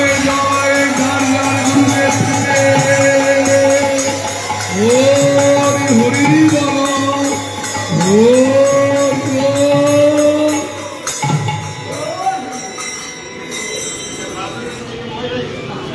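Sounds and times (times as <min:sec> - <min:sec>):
hand drums: 0:00.0 - 0:13.0
hand cymbals clashing: 0:00.0 - 0:15.0.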